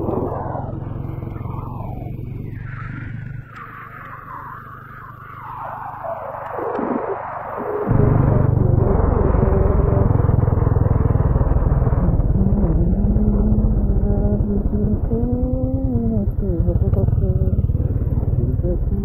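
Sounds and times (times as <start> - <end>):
motorcycle engine running: 0.0 - 6.4, 7.7 - 19.0.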